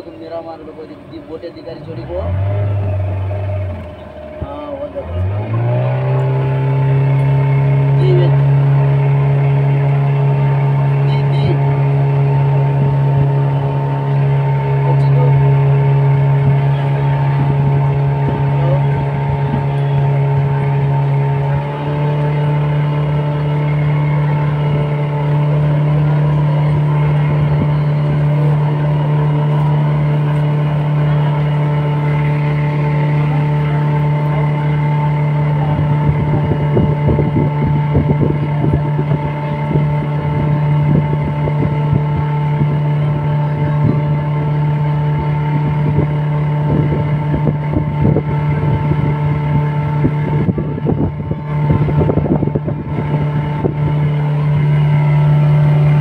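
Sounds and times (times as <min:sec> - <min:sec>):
motorboat engine droning: 0:00.0 - 0:56.0
wind buffeting microphone: 0:02.0 - 0:56.0.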